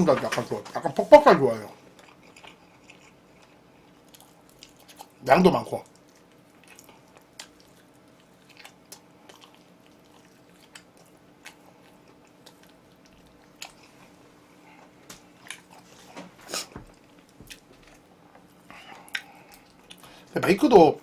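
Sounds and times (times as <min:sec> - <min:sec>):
chewing and biting food: 0:01.8 - 0:15.9, 0:16.5 - 0:20.3.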